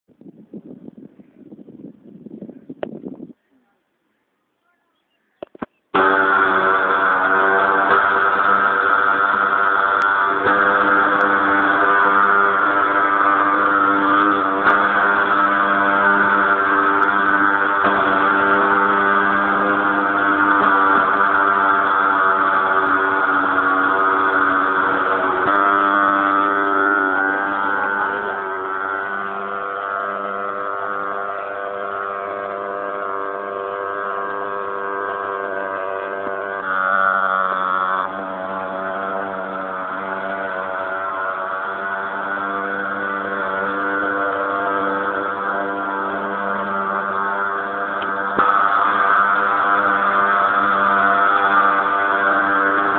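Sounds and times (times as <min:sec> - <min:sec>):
fogging machine droning: 0:05.4 - 0:52.9.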